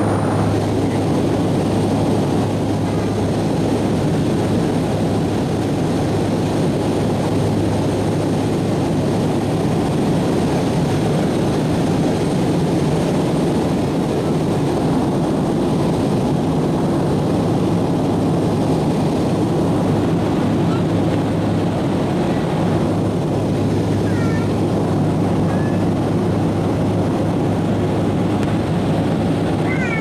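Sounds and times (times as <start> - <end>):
airplane cabin noise: 0.0 - 30.0.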